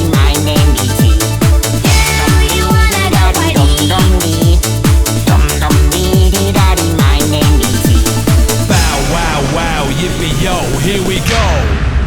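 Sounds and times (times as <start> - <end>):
electronic dance music: 0.0 - 11.8.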